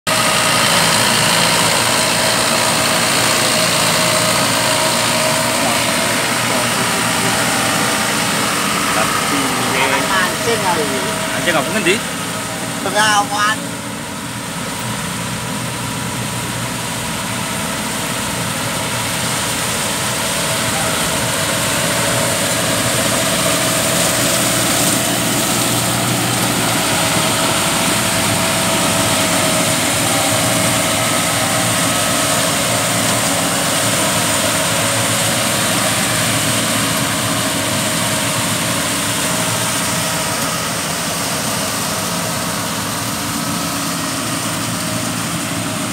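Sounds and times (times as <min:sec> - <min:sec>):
tiller churning wet mud: 0:00.0 - 0:45.9
tractor diesel engine under load: 0:00.0 - 0:45.9.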